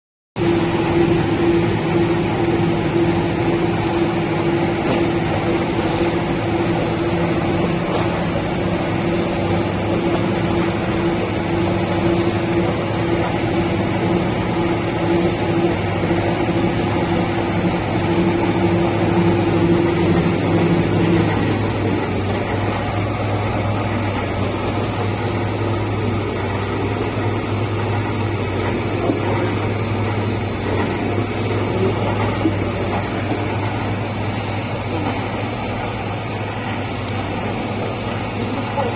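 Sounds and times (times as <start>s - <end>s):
high steady machine tone: 0.4s - 38.9s
machinery motor hum: 0.4s - 38.9s.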